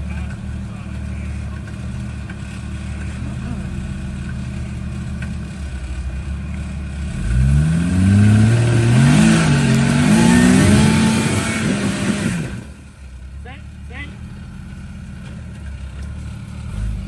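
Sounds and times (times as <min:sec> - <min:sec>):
engine idling and revving: 0:00.0 - 0:17.0.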